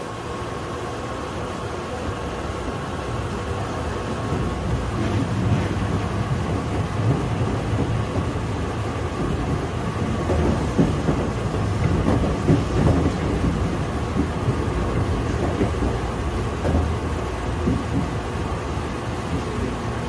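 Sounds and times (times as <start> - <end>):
train wheels rumbling on rails: 0.0 - 20.0
train clunks: 3.6 - 20.0.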